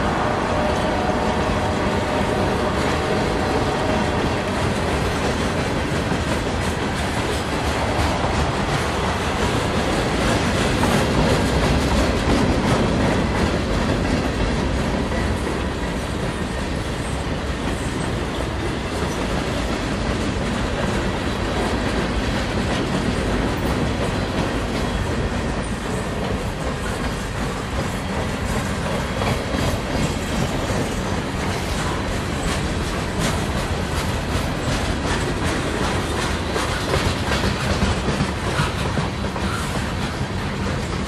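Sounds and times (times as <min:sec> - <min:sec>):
freight train wheels rumbling on rails: 0:00.0 - 0:41.0.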